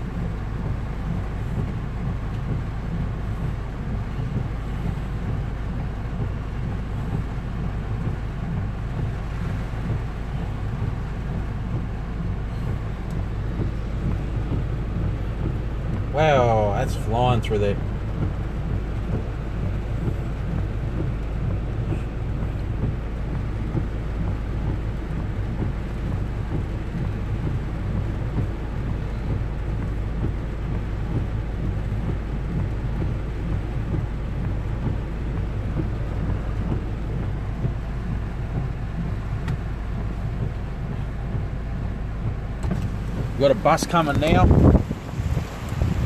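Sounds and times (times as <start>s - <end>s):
constant deep rumble: 0.0s - 46.0s
heavy rain on car roof: 0.0s - 46.0s.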